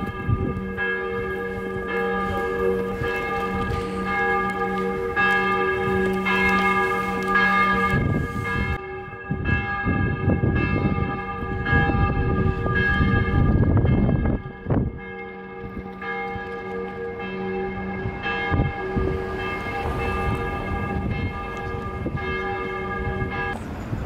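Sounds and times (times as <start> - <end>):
church bells pealing: 0.0 - 24.0.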